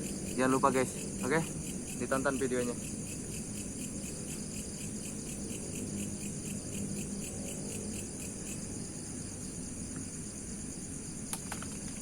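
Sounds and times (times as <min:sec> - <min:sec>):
insects buzzing: 0:00.0 - 0:12.0
pulsed insect chirp: 0:00.0 - 0:12.0.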